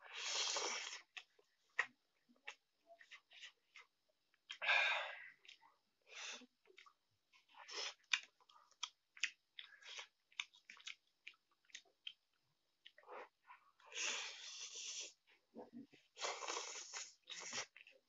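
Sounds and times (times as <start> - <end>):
wet chewing and lip smacks: 0.3 - 4.7, 6.4 - 18.0.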